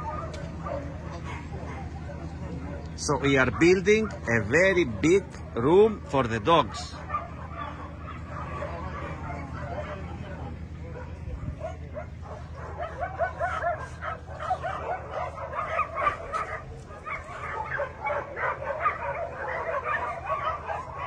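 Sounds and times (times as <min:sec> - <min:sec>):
dogs barking and yipping: 0:00.0 - 0:21.0
steady low hum: 0:00.0 - 0:21.0.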